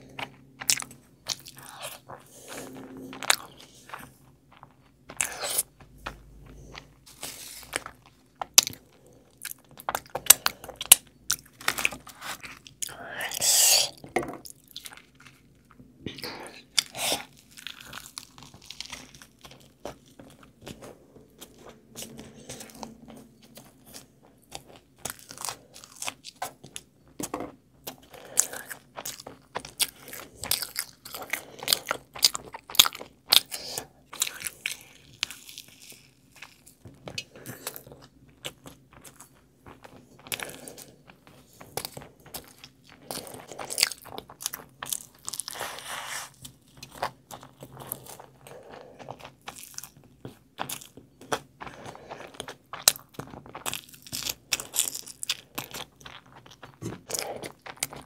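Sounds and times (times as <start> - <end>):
person chewing with wet smacks: 0.0 - 58.0.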